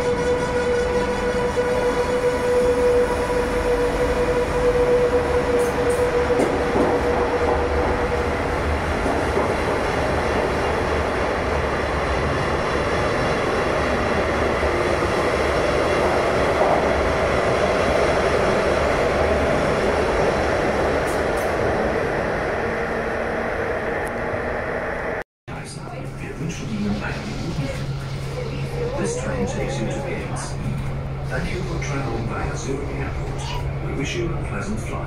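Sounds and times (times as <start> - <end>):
train wheels rumbling on rails: 0.0 - 22.8, 23.4 - 35.0.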